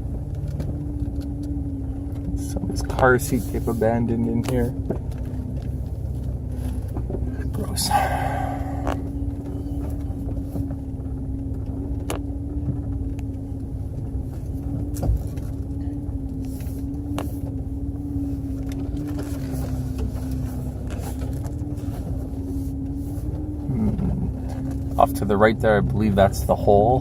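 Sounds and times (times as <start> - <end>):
vehicle engine running low: 0.0 - 27.0.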